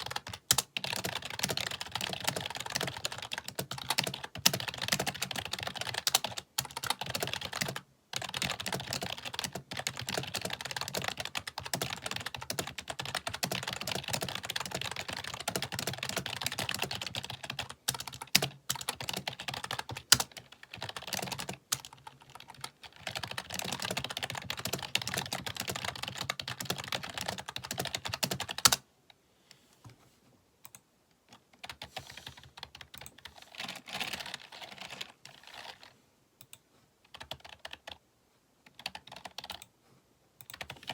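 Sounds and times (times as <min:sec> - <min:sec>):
fast typing on computer keyboard: 0:00.0 - 0:28.8, 0:30.7 - 0:35.9, 0:37.1 - 0:38.0, 0:38.7 - 0:39.7, 0:40.4 - 0:40.9.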